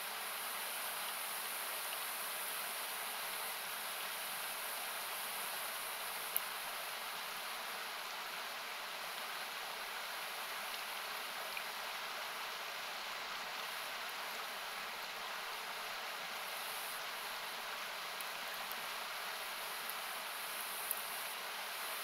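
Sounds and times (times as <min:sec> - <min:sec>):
faint campfire crackles: 0:00.0 - 0:22.0.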